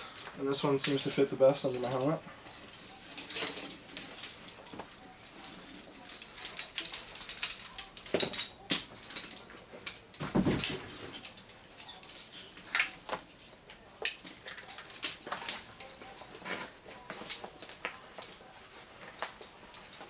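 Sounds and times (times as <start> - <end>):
metal hardware clicking and clinking: 0.0 - 20.0
rustling: 0.0 - 20.0.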